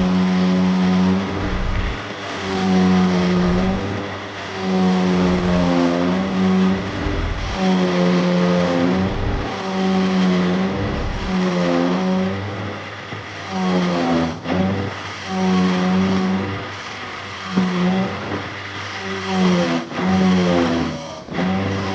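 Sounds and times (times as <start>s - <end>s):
small motor running in bursts: 0.0s - 12.7s, 13.4s - 21.9s.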